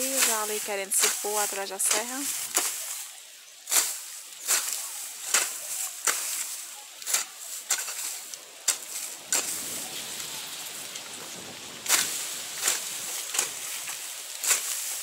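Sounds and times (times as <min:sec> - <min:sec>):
hand tool scraping hard ground: 0:00.0 - 0:03.1, 0:03.7 - 0:09.7, 0:11.9 - 0:15.0.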